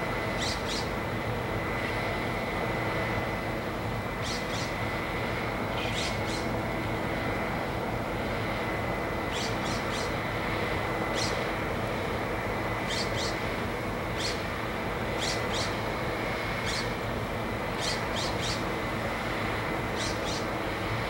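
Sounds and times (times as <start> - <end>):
excavator diesel engines running: 0.0 - 21.0.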